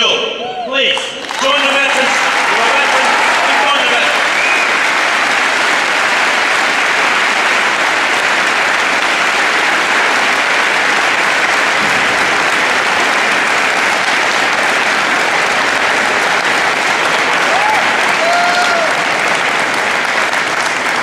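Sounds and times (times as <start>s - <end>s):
large audience applauding: 0.7s - 21.0s.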